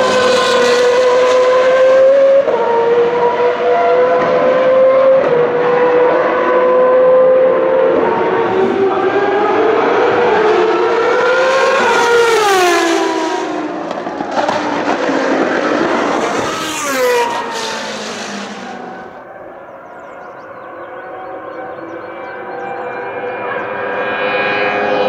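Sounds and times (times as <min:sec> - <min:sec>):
racing car engine passing: 0:00.0 - 0:25.0.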